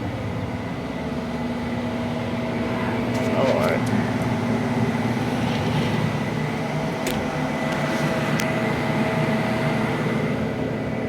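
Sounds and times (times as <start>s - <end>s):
machine hum with high whine: 0.0s - 11.0s.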